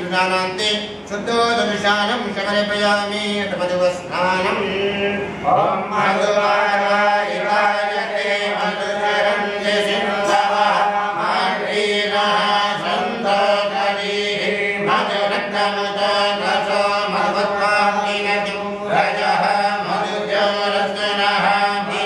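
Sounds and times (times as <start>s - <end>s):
mantra chanting: 0.0s - 22.0s.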